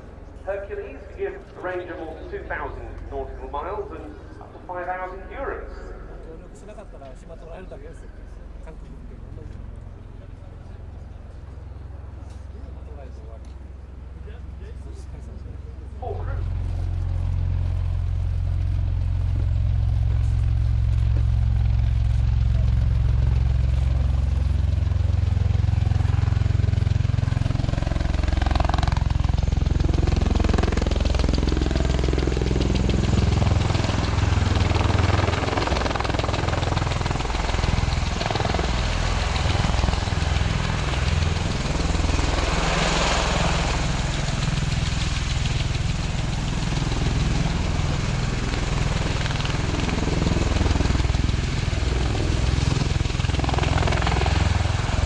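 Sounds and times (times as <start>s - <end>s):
aircraft rotors deep drone: 0.0s - 55.0s.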